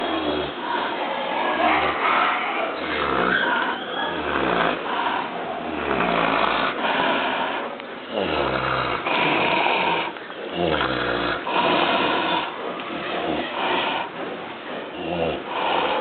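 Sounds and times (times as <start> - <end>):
pig snoring: 0.0 - 16.0.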